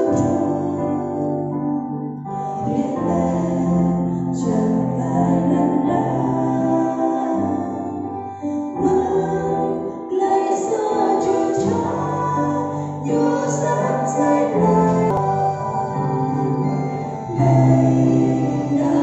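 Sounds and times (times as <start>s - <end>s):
women singing a hymn: 0.0s - 1.6s, 2.6s - 19.0s
keyboard held chords: 0.0s - 19.0s.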